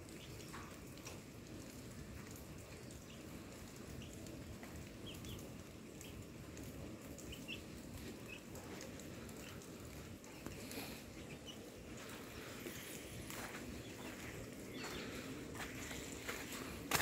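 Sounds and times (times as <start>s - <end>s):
low background noise: 0.0s - 17.0s
small birds chirping: 0.0s - 17.0s.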